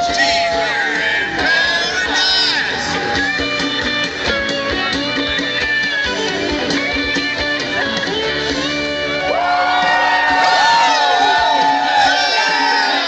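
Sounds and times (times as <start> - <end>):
guitars strumming chords: 0.0 - 13.0.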